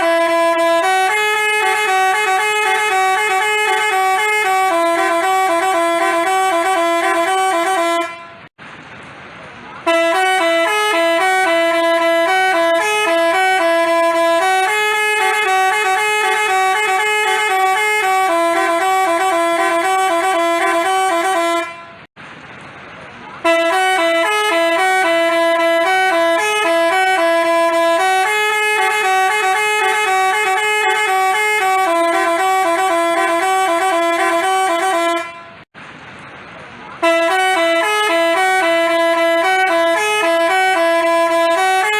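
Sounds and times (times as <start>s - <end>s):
musical bus horn melody: 0.0s - 8.5s, 9.8s - 22.1s, 23.4s - 35.7s, 37.0s - 41.9s.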